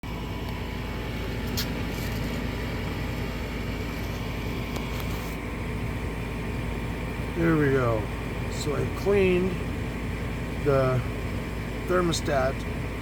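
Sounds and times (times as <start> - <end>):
furnace motor hum: 0.0 - 13.0.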